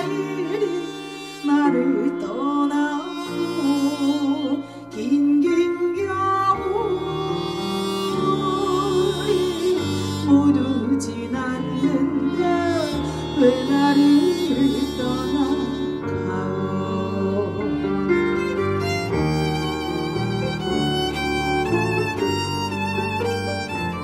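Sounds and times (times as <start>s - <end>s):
violin slow melody: 0.0s - 24.0s.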